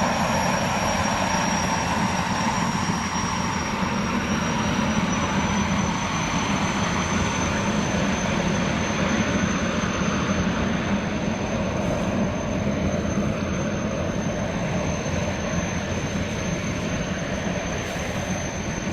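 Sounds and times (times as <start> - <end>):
boat engine drone: 0.0 - 18.9
high engine whine: 0.0 - 18.9.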